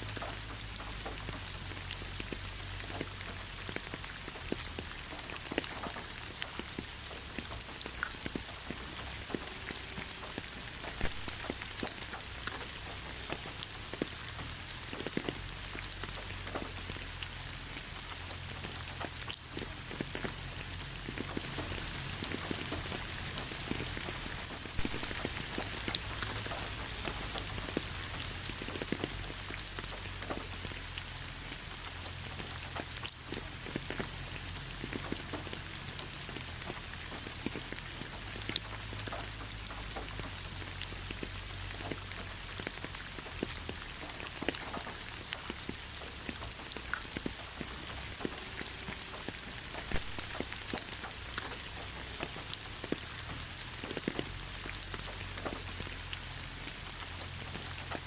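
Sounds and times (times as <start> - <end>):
rain falling: 0.0 - 58.0
raindrops ticking on surfaces: 0.0 - 58.0.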